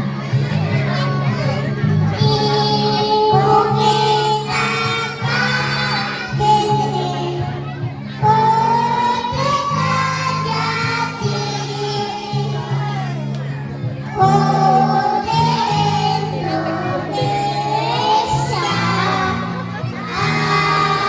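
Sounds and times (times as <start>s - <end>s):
children's choir singing: 2.1s - 13.2s, 14.0s - 21.0s
instrumental accompaniment: 2.4s - 21.0s.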